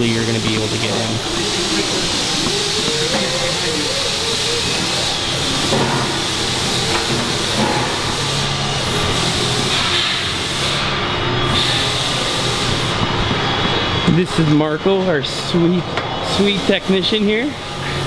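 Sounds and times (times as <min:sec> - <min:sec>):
loud hissing background noise: 0:00.0 - 0:18.0.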